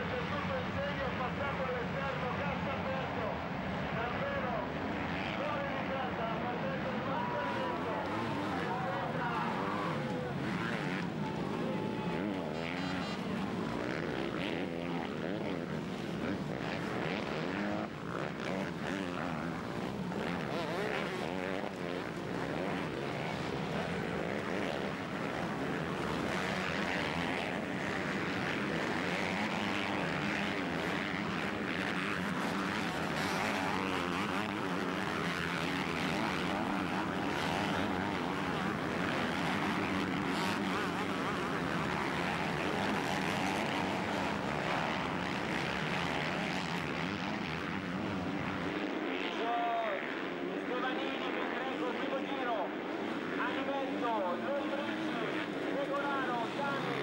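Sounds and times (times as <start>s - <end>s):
motocross bike engines revving: 3.8s - 57.0s.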